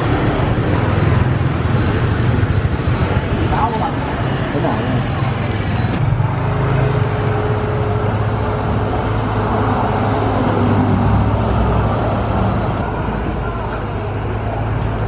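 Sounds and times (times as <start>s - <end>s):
street traffic hum: 0.0s - 15.0s.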